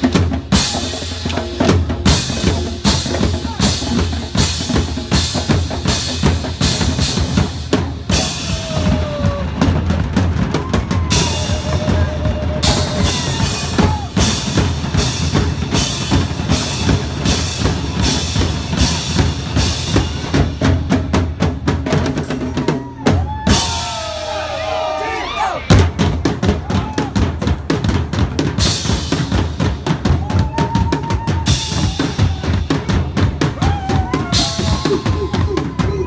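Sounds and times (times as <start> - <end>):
loud drum-driven music: 0.0 - 36.0.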